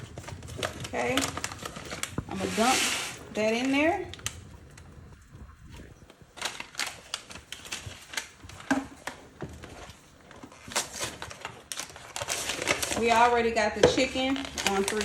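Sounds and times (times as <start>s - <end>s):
packet rustling: 0.0s - 15.0s.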